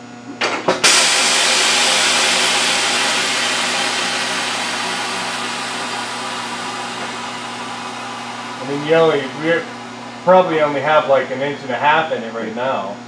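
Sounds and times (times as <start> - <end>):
loud hiss of air release: 0.8 - 11.5.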